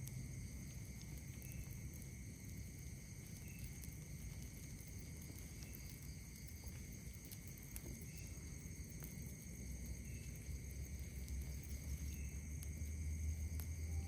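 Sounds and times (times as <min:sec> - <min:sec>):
campfire crackling: 0:00.0 - 0:13.9
night insects trilling: 0:00.0 - 0:14.0.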